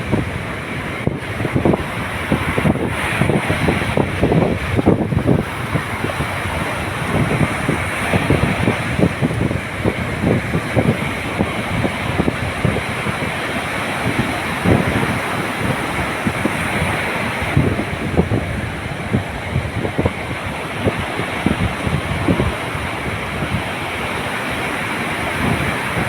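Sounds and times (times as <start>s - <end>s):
ocean waves washing in: 0.0s - 26.0s
wind buffeting microphone: 0.0s - 26.0s.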